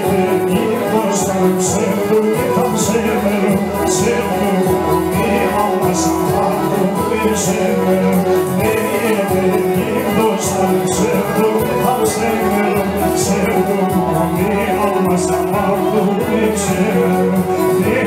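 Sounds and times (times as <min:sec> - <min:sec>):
loud amplified music: 0:00.0 - 0:18.0
man singing into microphone: 0:00.0 - 0:18.0.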